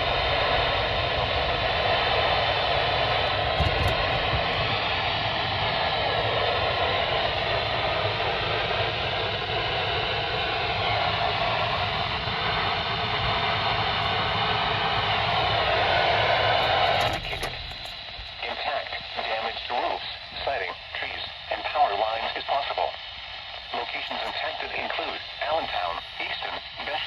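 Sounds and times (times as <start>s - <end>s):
radio static hiss: 2.9s - 4.9s, 6.7s - 27.0s.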